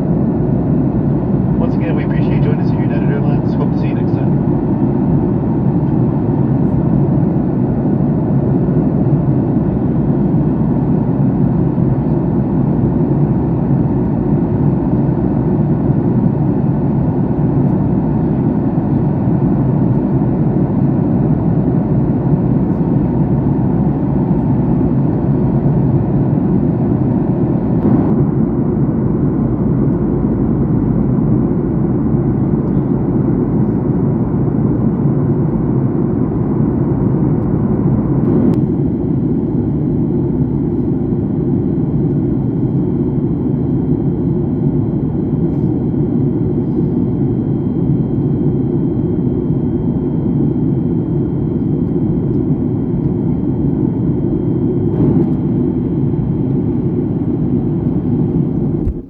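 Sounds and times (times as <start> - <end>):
airliner cabin engine roar: 0.0 - 59.0.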